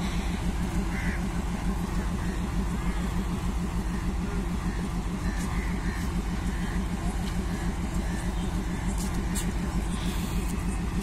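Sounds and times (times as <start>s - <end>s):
diesel locomotive engine throbbing: 0.0s - 11.0s.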